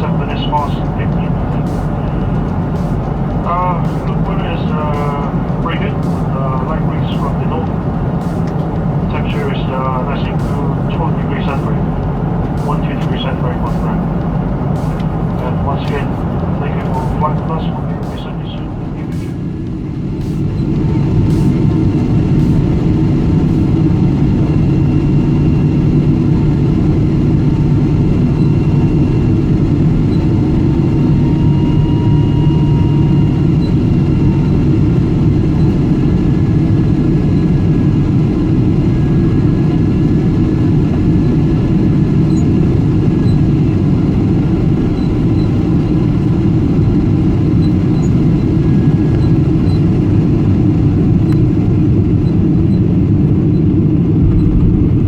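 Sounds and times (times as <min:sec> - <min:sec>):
aircraft cabin roar: 0:00.0 - 0:55.0
faint steady whine: 0:00.0 - 0:55.0.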